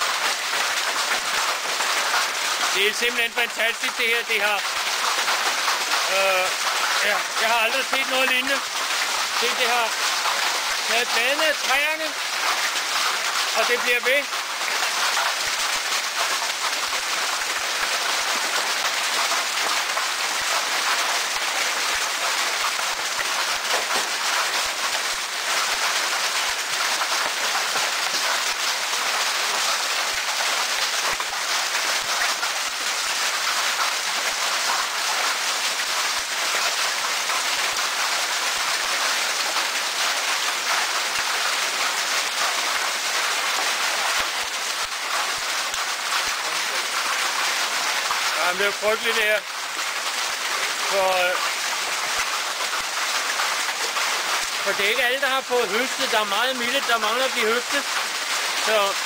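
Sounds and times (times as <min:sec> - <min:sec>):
hailstones clattering: 0:00.0 - 0:59.0.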